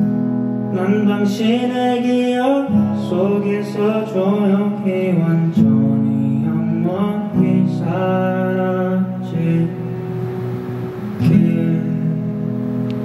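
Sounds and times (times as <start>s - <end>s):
acoustic guitar strummed slowly: 0.0s - 13.0s
man singing: 0.7s - 12.8s.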